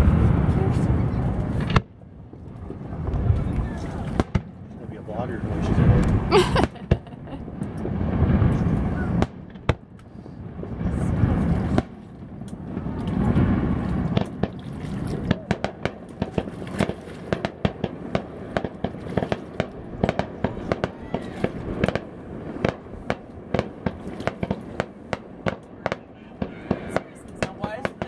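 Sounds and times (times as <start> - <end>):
firework pops and crackles: 1.4 - 4.7, 5.7 - 28.0
distant firework booms: 2.6 - 4.7, 5.6 - 14.6, 15.2 - 28.0.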